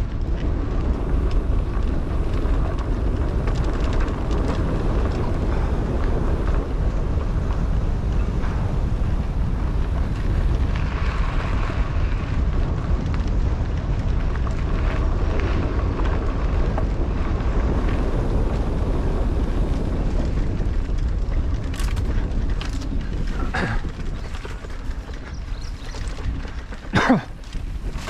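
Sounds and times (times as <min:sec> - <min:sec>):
bike clicks and rattles: 0:00.0 - 0:28.0
bike tyres rolling on dirt: 0:00.0 - 0:28.0
wind buffeting microphone: 0:00.0 - 0:28.0.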